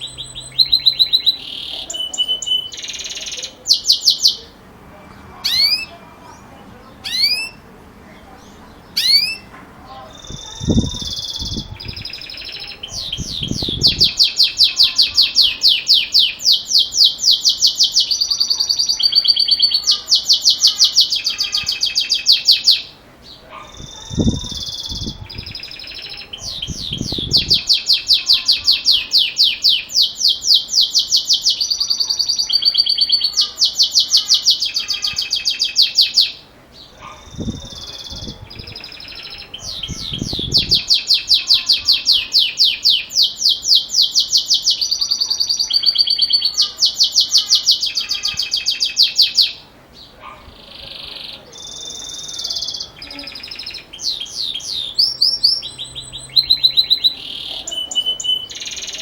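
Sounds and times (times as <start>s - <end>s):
canary singing ringing trills: 0.0s - 59.0s.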